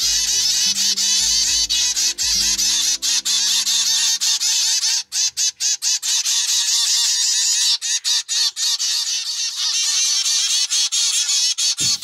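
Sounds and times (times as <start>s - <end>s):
finch chicks begging calls: 0.0s - 12.0s.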